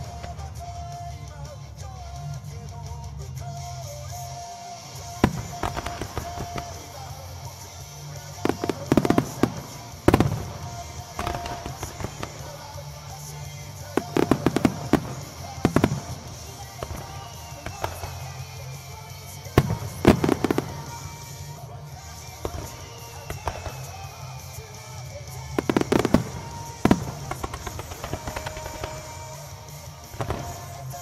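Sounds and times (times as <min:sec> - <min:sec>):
fireworks bangs and cracks: 0:00.0 - 0:02.2, 0:04.3 - 0:31.0
music playing: 0:00.0 - 0:31.0.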